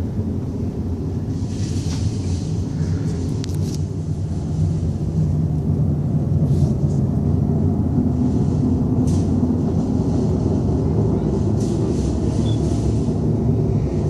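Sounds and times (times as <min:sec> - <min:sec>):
loud low rumble: 0:00.0 - 0:14.0.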